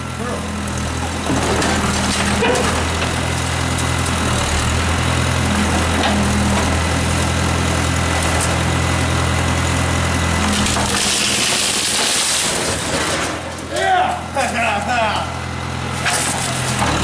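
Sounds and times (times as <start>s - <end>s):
backhoe engine droning: 0.0s - 17.0s.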